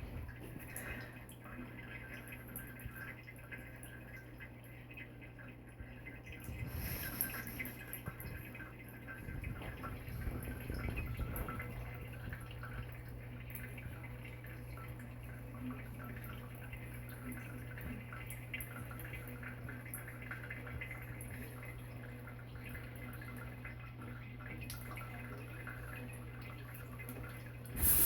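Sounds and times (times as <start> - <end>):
faucet running into sink: 0.0 - 28.0
water dripping and splashing: 0.0 - 28.0.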